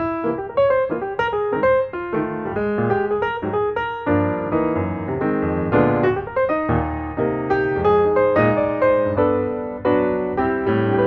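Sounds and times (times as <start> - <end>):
instrumental piano music: 0.0 - 11.0.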